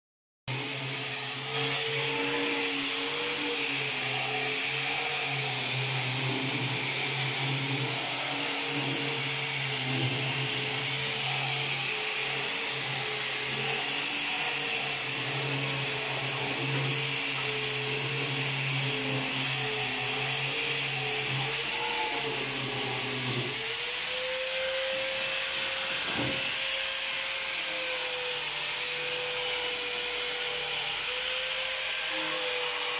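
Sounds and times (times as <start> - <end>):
electric sander on wood: 0.5 - 32.9.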